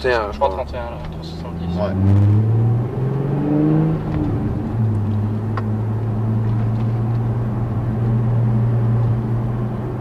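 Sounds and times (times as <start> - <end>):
car engine droning while driving: 0.0 - 10.0.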